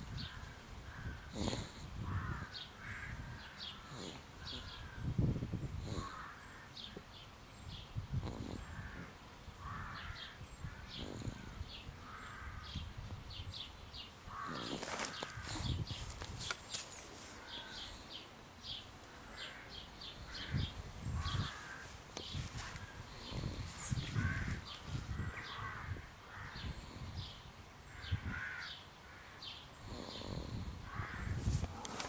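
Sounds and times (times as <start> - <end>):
bird raspy snore-like calls: 0.2 - 5.0, 5.7 - 7.0, 8.1 - 12.7, 14.3 - 15.8, 17.4 - 29.2, 29.8 - 32.0.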